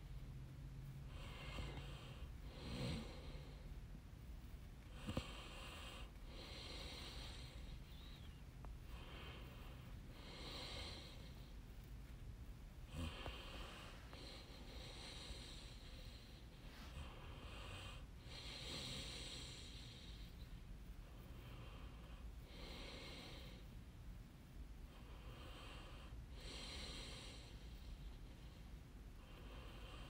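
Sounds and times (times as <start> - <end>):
low steady hum: 0.0 - 30.0
soft breathing: 0.0 - 30.0.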